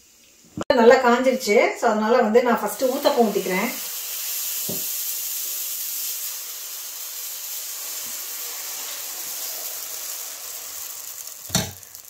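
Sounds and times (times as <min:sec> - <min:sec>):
batter hissing on hot griddle: 0:02.3 - 0:12.0.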